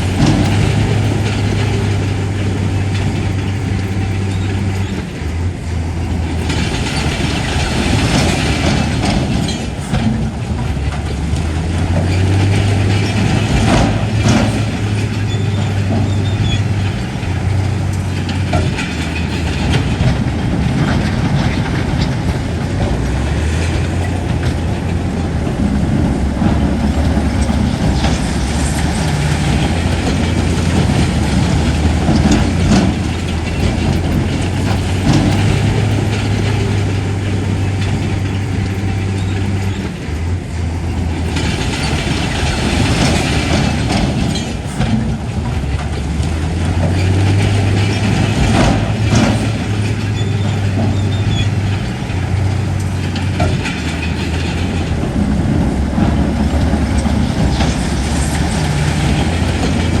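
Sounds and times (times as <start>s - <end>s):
bulldozer diesel engine working: 0.0s - 60.0s
mechanical clatter: 0.0s - 60.0s.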